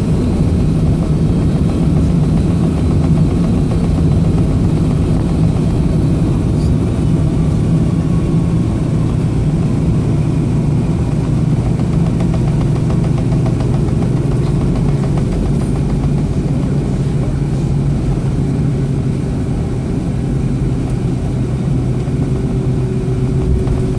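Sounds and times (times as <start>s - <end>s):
jet engines droning in cabin: 0.0s - 23.9s.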